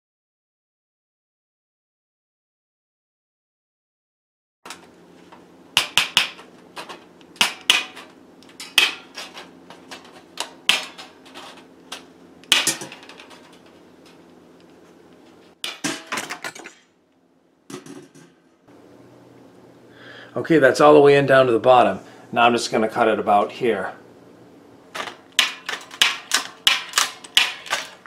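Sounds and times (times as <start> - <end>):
faint steady hum: 4.7 - 28.0.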